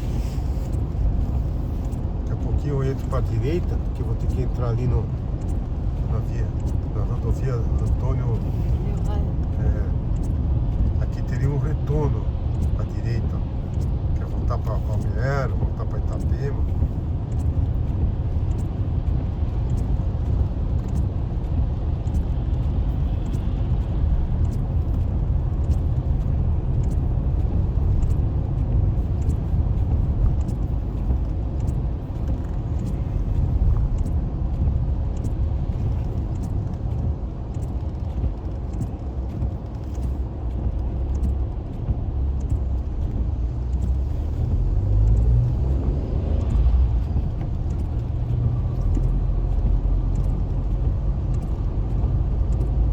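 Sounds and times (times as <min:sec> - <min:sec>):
car engine and tyres rumbling: 0:00.0 - 0:52.9
faint regular ticking: 0:00.6 - 0:52.9.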